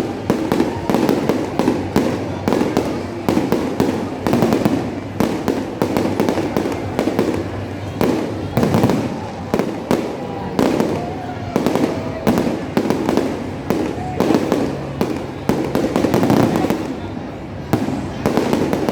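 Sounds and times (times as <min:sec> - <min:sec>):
fireworks bangs and crackling: 0:00.0 - 0:18.9.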